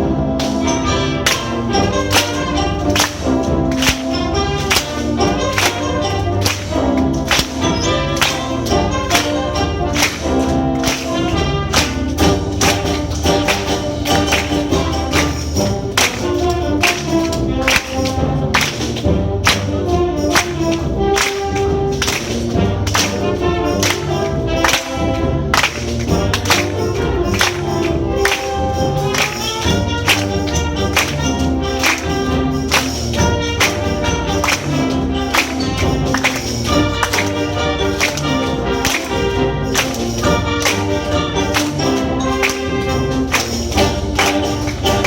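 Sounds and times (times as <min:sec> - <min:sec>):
sharp percussion accents: 0:00.0 - 0:45.0
wind band playing: 0:00.0 - 0:45.0.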